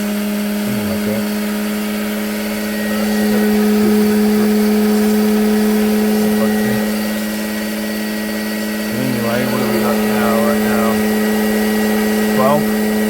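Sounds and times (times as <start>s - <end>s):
turbine and generator humming: 0.0s - 13.0s.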